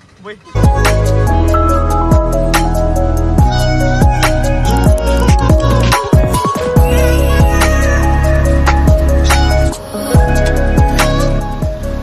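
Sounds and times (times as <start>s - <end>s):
electronic music with deep bass: 0.5s - 12.0s.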